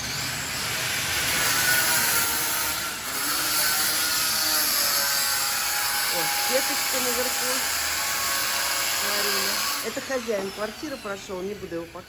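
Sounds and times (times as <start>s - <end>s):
power tool motor whining: 0.4s - 12.0s.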